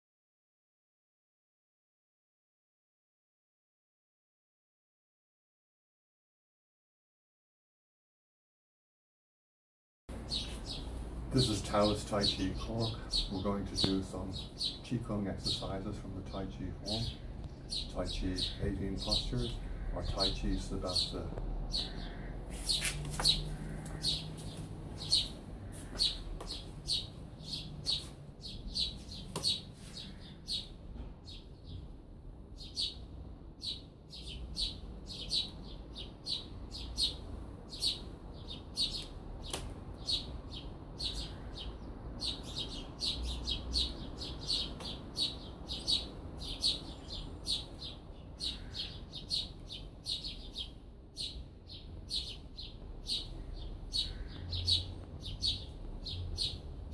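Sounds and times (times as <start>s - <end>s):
small birds chirping: 10.1s - 56.9s.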